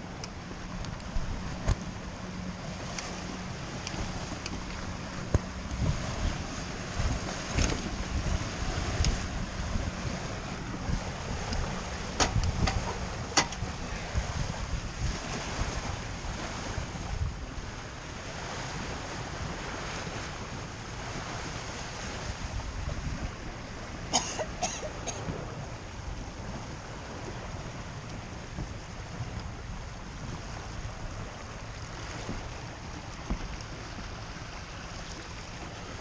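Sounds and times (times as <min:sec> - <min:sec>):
water rushing along hull: 0:00.0 - 0:36.0
wind buffeting microphone: 0:00.0 - 0:36.0.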